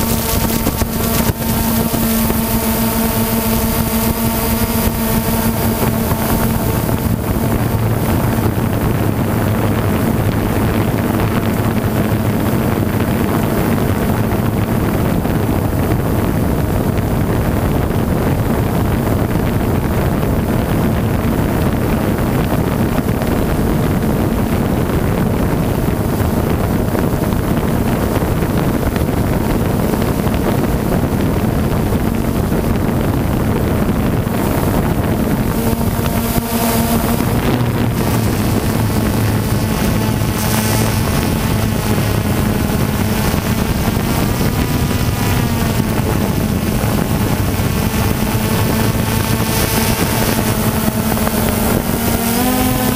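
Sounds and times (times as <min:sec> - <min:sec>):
drone propellers humming: 0:00.0 - 0:52.9
wind rushing over microphone: 0:00.0 - 0:52.9.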